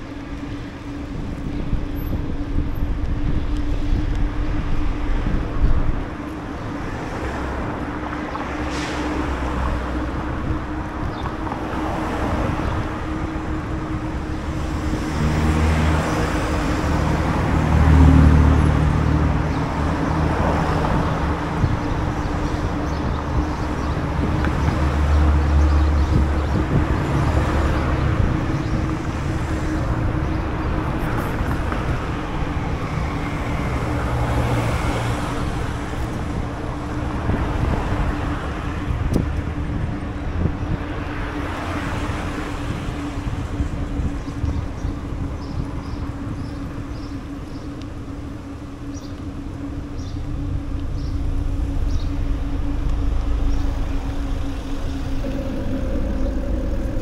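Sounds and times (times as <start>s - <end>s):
low rumbling: 0.0s - 57.0s
road traffic: 0.0s - 57.0s
wind noise on microphone: 0.0s - 57.0s.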